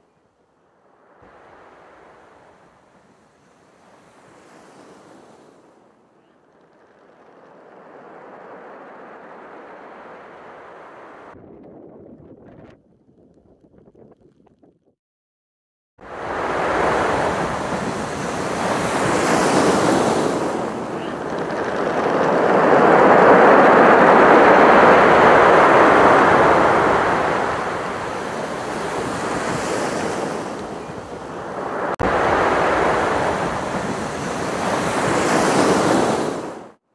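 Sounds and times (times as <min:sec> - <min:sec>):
waves breaking and washing in: 0:00.0 - 0:06.3, 0:07.0 - 0:11.4, 0:16.0 - 0:36.8.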